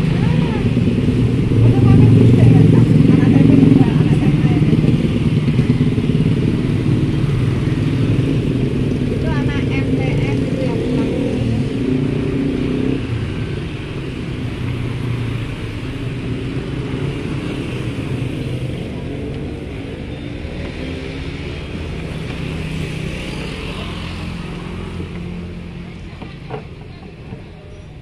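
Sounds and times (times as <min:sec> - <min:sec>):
motorbikes riding past: 0:00.0 - 0:28.0.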